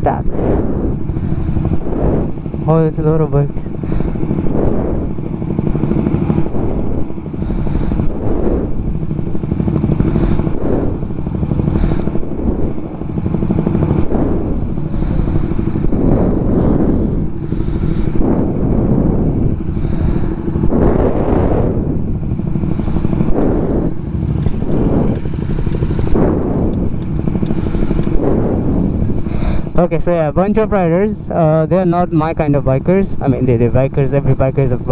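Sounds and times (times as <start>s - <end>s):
low noise rush: 0.0s - 34.9s
motorcycle engine revving: 0.0s - 34.9s.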